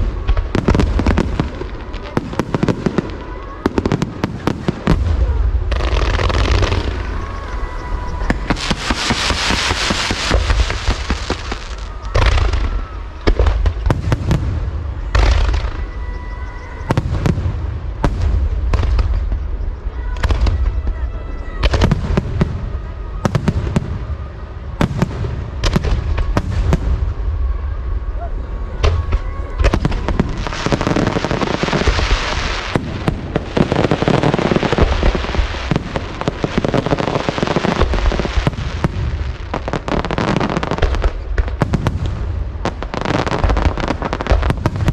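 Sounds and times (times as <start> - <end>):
fireworks crackling: 0.0 - 44.9.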